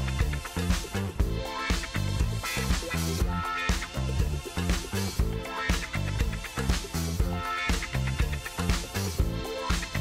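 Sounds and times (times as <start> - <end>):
bass line: 0.0 - 10.0
music with steady beat: 0.0 - 10.0.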